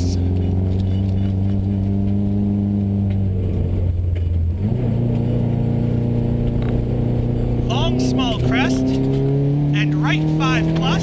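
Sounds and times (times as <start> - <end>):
car engine running under load: 0.0 - 11.0
road noise: 0.0 - 11.0.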